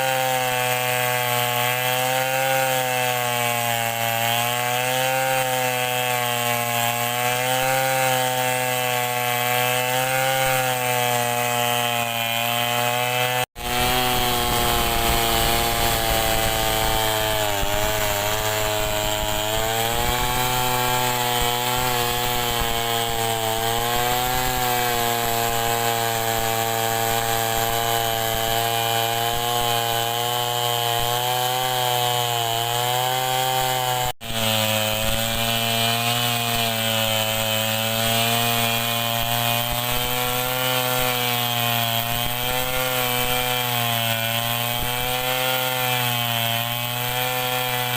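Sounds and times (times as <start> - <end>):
chainsaw cutting through log: 0.0 - 47.9.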